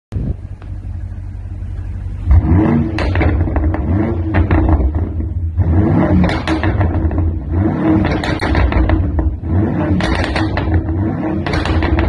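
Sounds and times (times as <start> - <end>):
car engine idling and revving: 0.1 - 12.0
exhaust crackles and pops: 0.3 - 0.9, 2.2 - 12.0.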